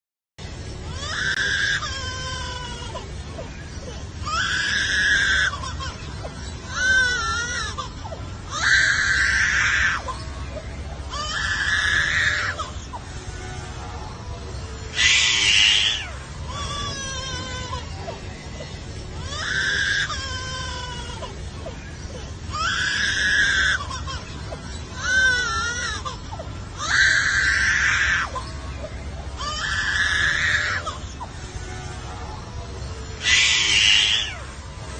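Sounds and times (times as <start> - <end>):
bird harsh wailing calls: 0.9 - 13.2, 14.8 - 28.6, 29.3 - 31.2, 33.2 - 34.5.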